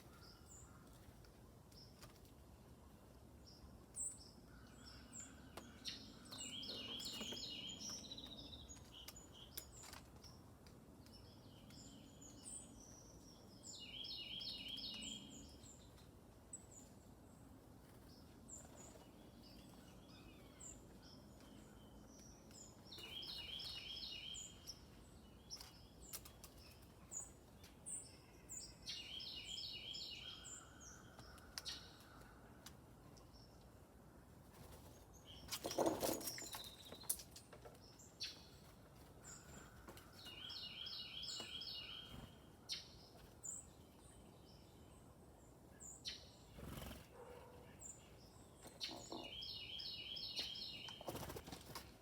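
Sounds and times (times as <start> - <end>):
songbirds calling: 0.0 - 52.0.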